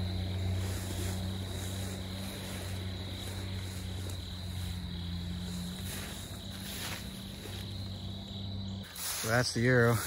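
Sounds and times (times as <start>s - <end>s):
low hum: 0.0s - 8.9s
insects calling: 0.0s - 10.0s.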